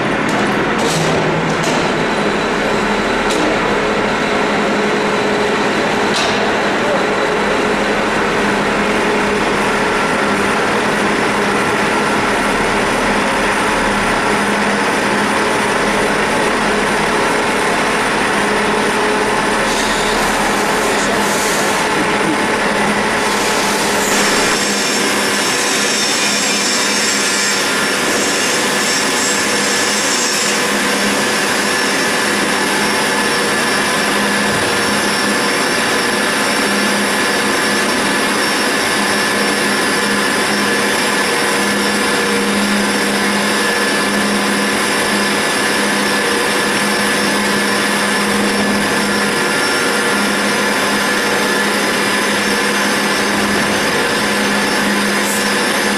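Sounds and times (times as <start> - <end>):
lathe cutting metal: 1.9 - 55.9.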